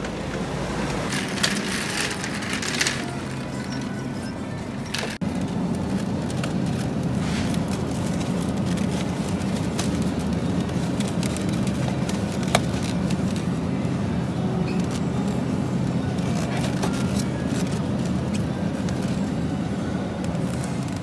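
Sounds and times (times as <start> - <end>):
store background rumble: 0.0 - 21.0.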